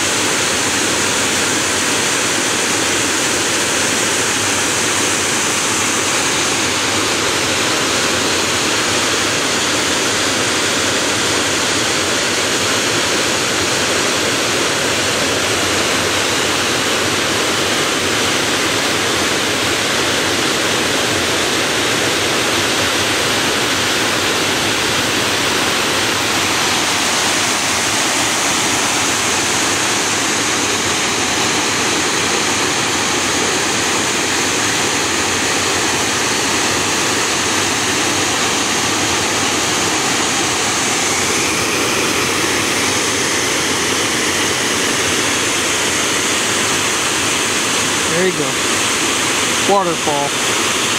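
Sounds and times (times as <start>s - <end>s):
water rushing over dam spillway: 0.0s - 50.9s.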